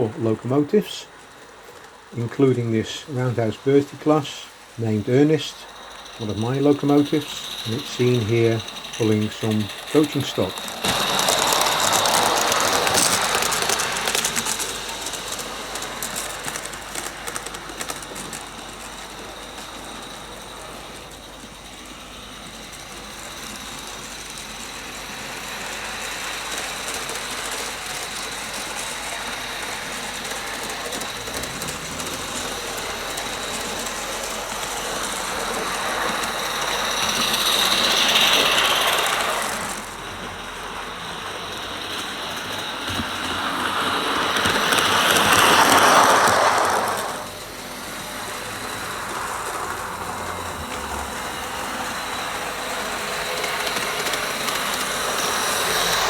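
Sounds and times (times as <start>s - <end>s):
small wheels clicking on track: 0.0s - 56.0s
steam locomotive exhaust chuffs: 0.0s - 56.0s.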